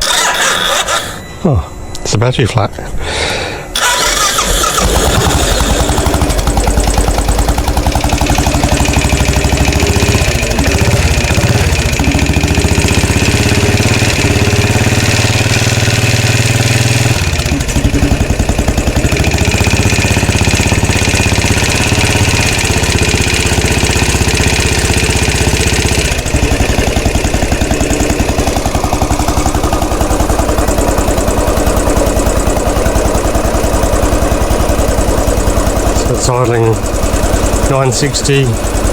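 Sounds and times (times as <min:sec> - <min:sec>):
motorcycle engine idling: 0:03.8 - 0:38.9.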